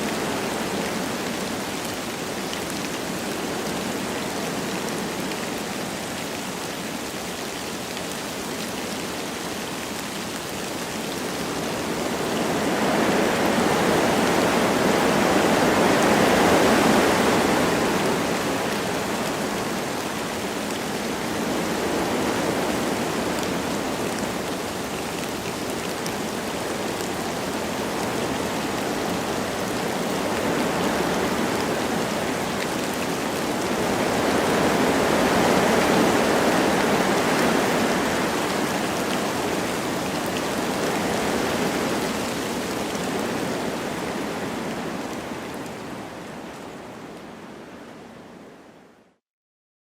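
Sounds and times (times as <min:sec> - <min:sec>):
wind blowing through trees: 0:00.0 - 0:49.1
light rain: 0:00.0 - 0:49.2.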